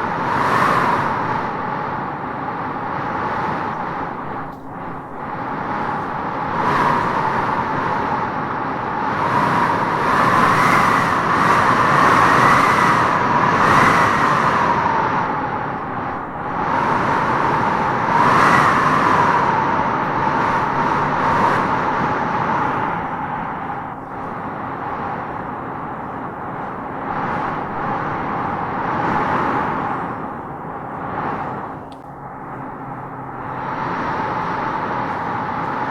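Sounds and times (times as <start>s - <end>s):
howling wind gusting through trees: 0.0s - 35.9s.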